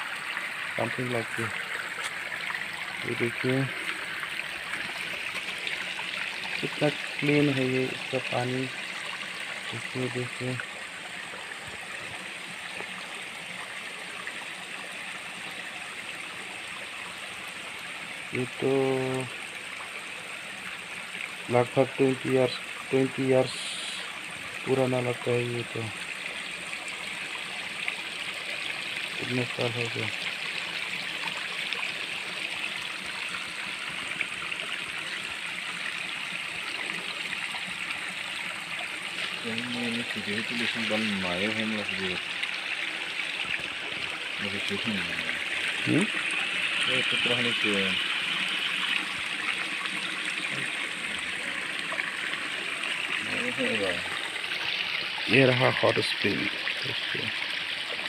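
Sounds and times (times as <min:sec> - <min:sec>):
water flowing through a channel: 0:00.0 - 0:58.0.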